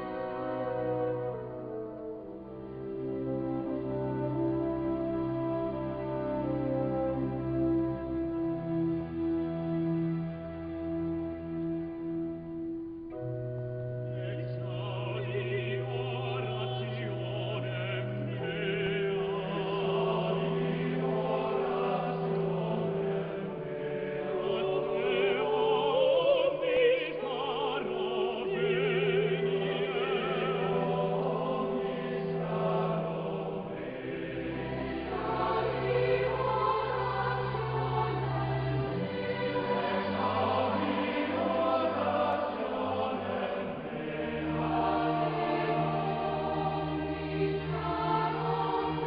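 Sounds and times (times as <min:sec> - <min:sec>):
choir singing with vibrato: 0:00.0 - 0:12.6, 0:14.0 - 0:49.0.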